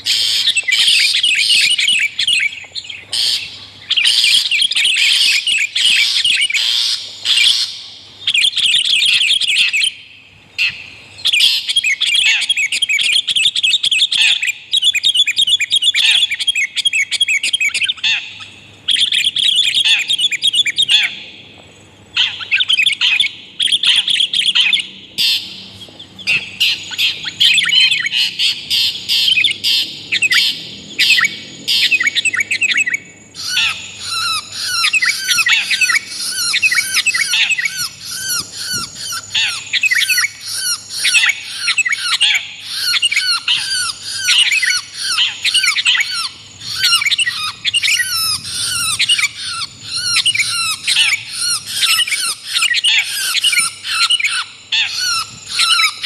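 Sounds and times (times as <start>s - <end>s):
birds chattering rapidly: 0.0s - 56.0s.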